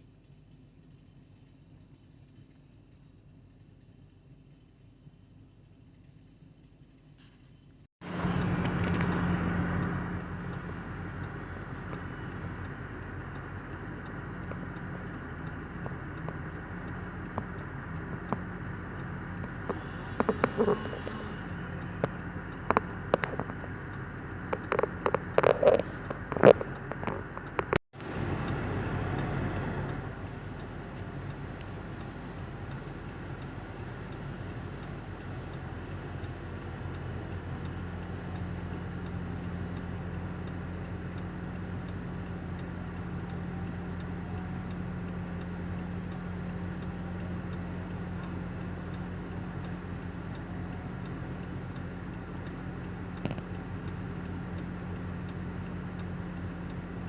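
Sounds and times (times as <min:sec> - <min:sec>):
engine idling with ticking: 0:00.0 - 0:57.0.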